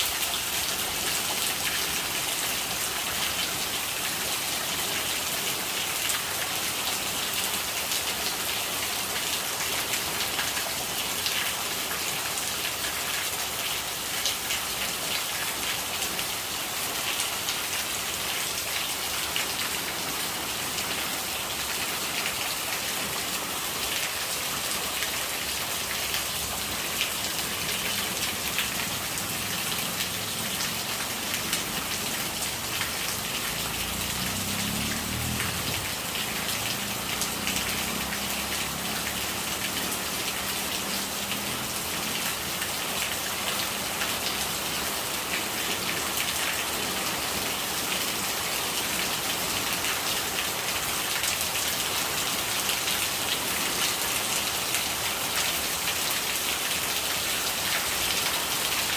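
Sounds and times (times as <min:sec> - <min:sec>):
running rainwater gurgling: 0:00.0 - 0:58.9
steady rain pattering: 0:00.0 - 0:58.9.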